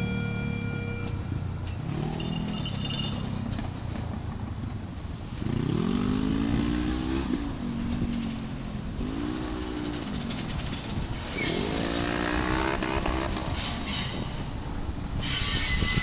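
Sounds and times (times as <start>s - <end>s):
subway train on rails: 0.0s - 16.0s.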